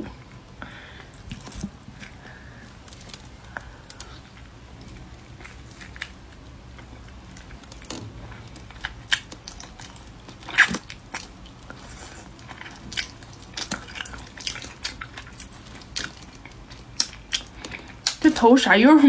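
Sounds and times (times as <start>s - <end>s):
eating mouth clicks and smacks: 1.2s - 18.3s.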